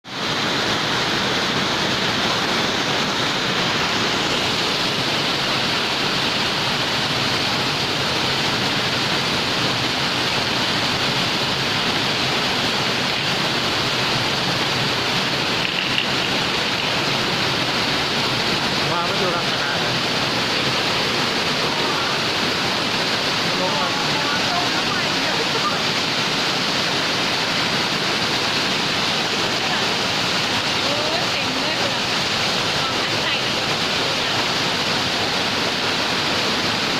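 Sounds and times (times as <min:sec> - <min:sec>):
water rushing: 0:00.0 - 0:36.9.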